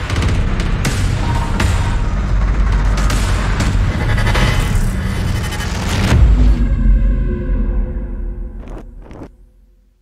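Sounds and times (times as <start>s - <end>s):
cinematic music with bass rumble: 0.0s - 10.0s.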